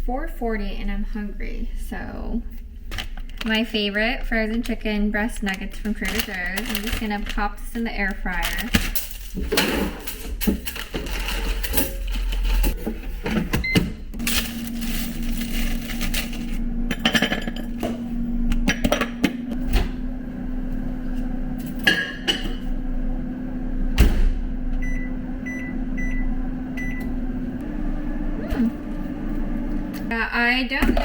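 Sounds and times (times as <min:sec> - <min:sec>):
air fryer fan humming: 0:00.6 - 0:31.0.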